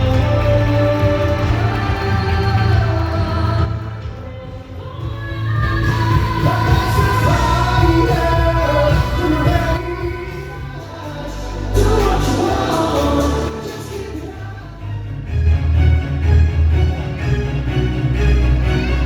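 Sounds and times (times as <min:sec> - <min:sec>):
song with heavy bass: 0:00.0 - 0:19.0.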